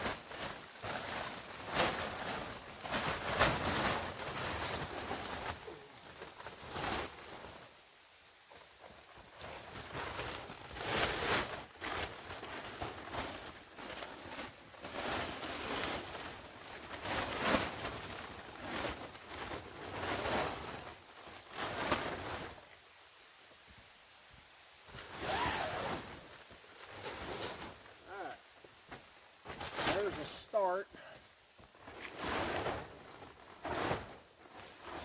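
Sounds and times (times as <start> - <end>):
tarp rustling and crackling: 0.0 - 35.0.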